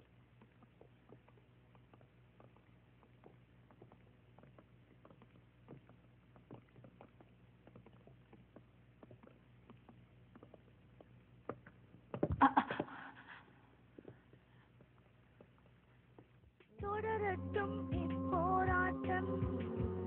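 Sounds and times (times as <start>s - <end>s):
faint scattered taps: 0.0s - 13.0s, 13.8s - 17.0s
low steady hum: 0.0s - 20.0s.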